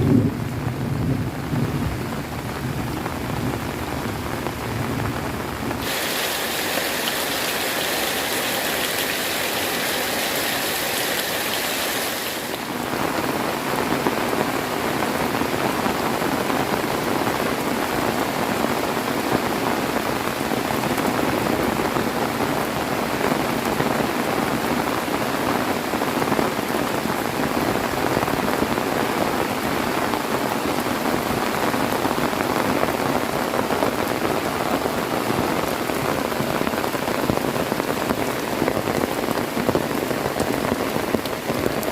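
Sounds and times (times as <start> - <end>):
heavy rain pattering: 0.0 - 41.9.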